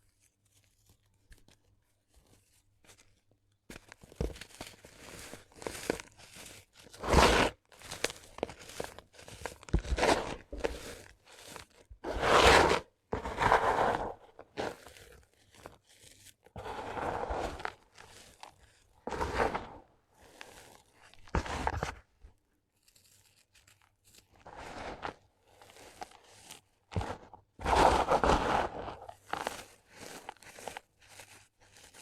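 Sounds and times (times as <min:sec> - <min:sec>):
dried cement crumbling: 0:03.7 - 0:32.0.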